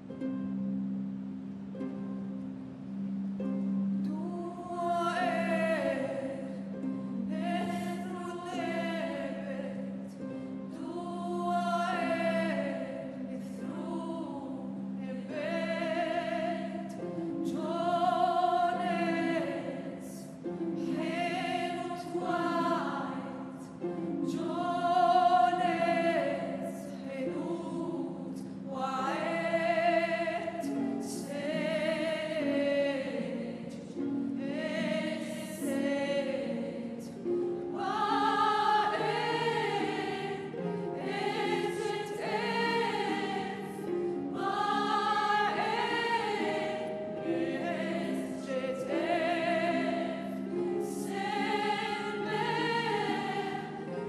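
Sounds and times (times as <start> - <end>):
woman singing with vibrato: 4.1 - 54.0.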